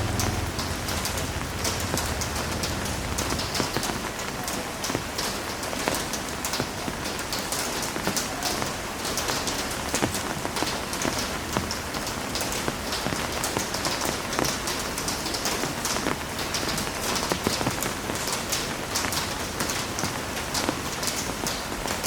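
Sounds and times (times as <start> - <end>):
heavy rain hissing: 0.0 - 22.0
sharp raindrop impacts: 0.0 - 22.0.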